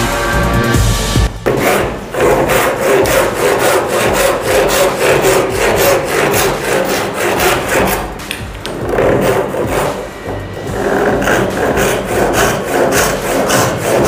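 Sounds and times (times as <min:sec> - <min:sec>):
hand saw cutting wood: 0:01.5 - 0:14.0.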